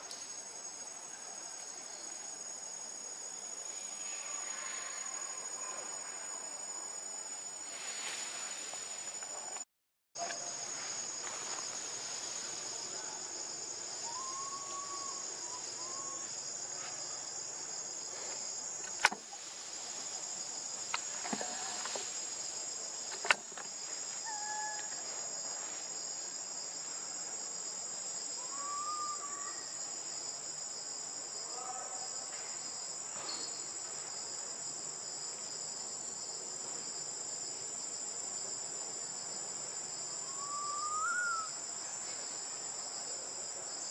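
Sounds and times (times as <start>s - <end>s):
insects droning: 0.0s - 9.6s, 10.2s - 43.9s.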